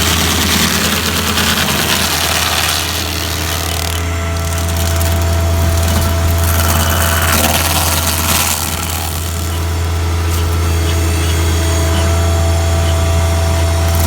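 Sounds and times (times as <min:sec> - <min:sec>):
cutter wheel grinding wood: 0:00.0 - 0:14.0
stump grinder engine hum: 0:00.0 - 0:14.0.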